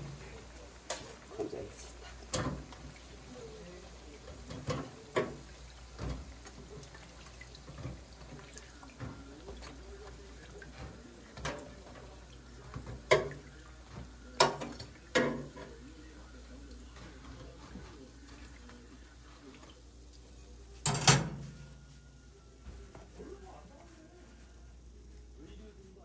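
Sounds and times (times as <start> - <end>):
frying oil sizzle: 0.0 - 21.9.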